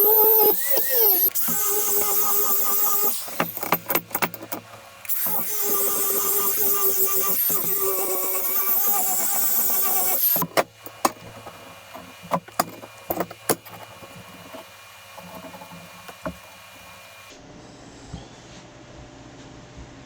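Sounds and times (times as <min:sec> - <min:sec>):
sharp clicks and knocks: 0:00.0 - 0:17.3.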